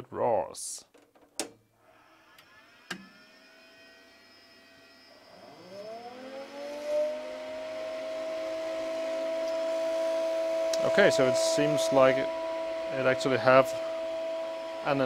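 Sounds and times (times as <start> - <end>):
electrical whine and hum: 1.8 - 15.0
cooling fans spinning up: 2.1 - 15.0.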